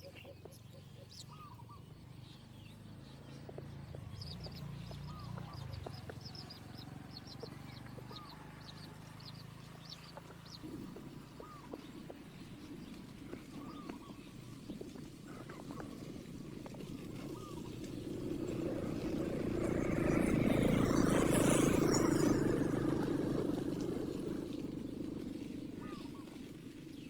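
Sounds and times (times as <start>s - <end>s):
birds chirping: 0.0s - 27.0s
lower hooked bird calls: 0.0s - 27.0s.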